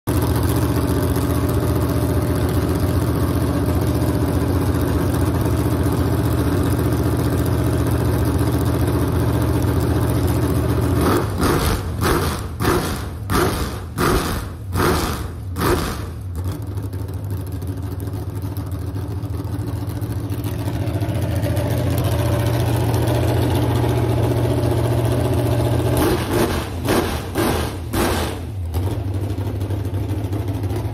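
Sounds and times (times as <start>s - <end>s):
engine idling and revving: 0.1s - 30.9s.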